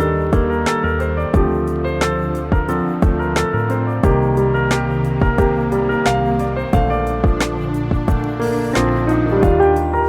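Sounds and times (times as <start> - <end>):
keyboard music over a beat: 0.0 - 10.0.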